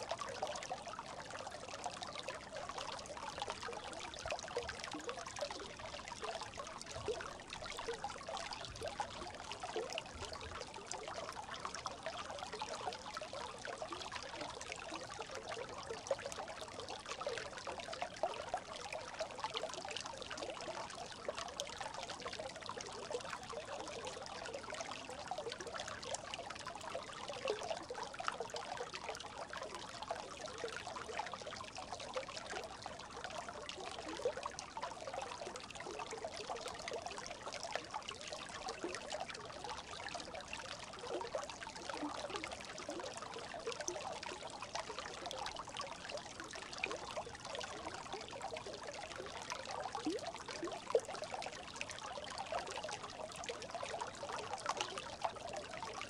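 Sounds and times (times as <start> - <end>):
brook babbling: 0.0 - 56.0.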